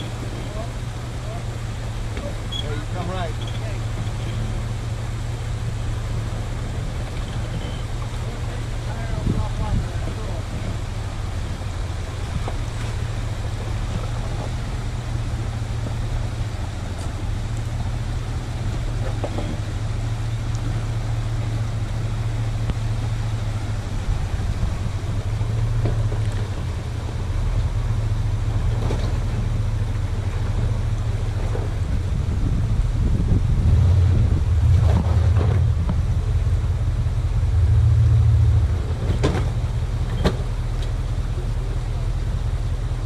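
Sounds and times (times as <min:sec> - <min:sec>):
pickup truck engine crawling: 0:00.0 - 0:43.0.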